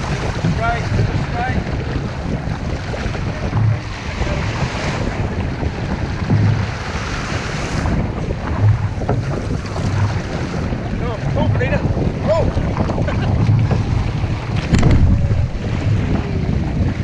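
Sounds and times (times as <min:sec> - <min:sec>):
water rushing along a hull: 0:00.0 - 0:17.0
wind buffeting microphone: 0:00.0 - 0:17.0.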